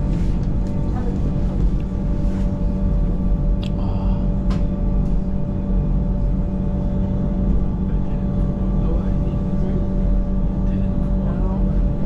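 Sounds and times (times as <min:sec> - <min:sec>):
motor hum: 0:00.0 - 0:12.0
train rumbling: 0:00.0 - 0:12.0.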